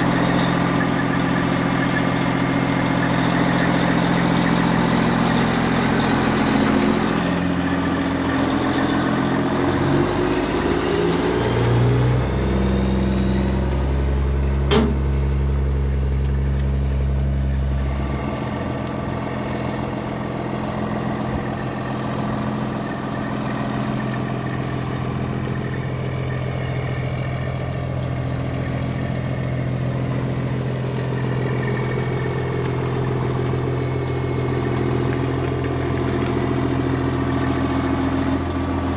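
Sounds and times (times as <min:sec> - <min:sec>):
deep hum: 0:00.0 - 0:38.9
truck diesel engine running: 0:00.0 - 0:38.9.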